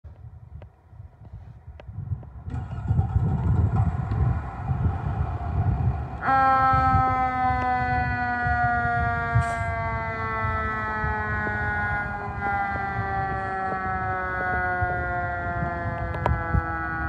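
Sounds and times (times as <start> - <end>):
low rumble: 0.2 - 16.8
fire engine siren: 2.5 - 17.0.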